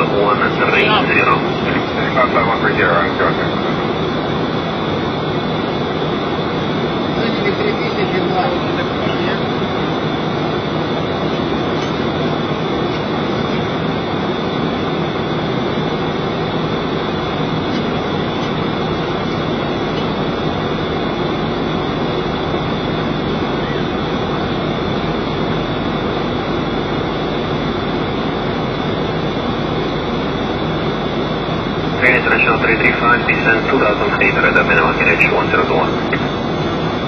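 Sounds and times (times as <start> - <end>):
airflow and engine rush: 0.0 - 37.0.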